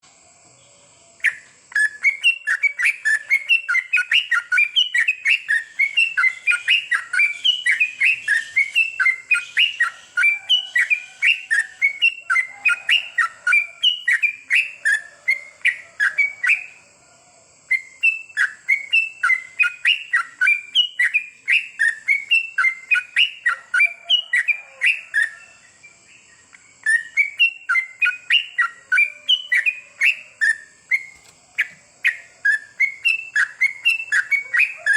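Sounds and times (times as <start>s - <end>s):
bulbul singing chirpy notes: 1.2s - 16.9s, 17.5s - 34.9s.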